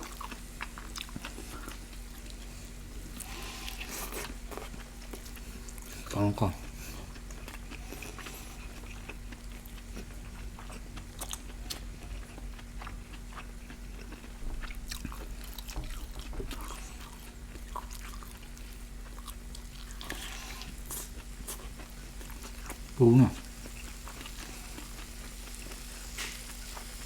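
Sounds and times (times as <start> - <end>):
faint steady hum: 0.0 - 27.0
wet chewing and smacking: 0.0 - 27.0.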